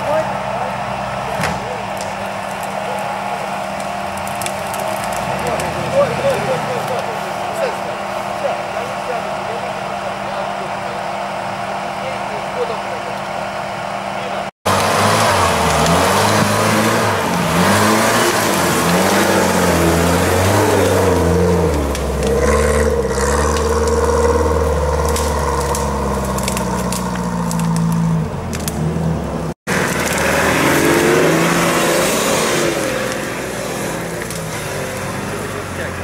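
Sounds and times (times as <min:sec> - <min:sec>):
off-road engines revving: 0:00.0 - 0:36.0.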